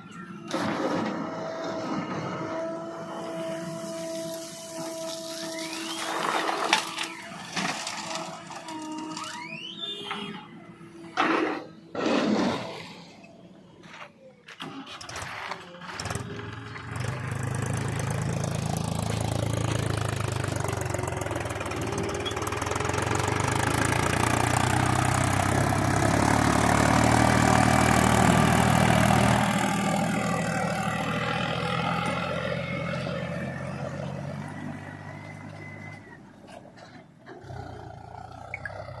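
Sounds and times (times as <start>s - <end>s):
heavy diesel engine under load: 0.0s - 39.0s.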